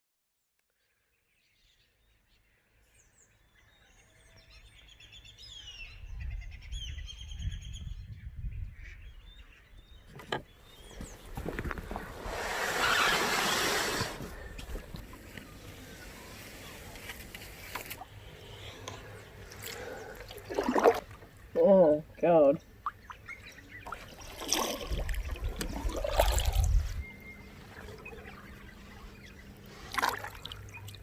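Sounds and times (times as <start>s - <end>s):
birds calling and chirping: 1.6s - 31.0s.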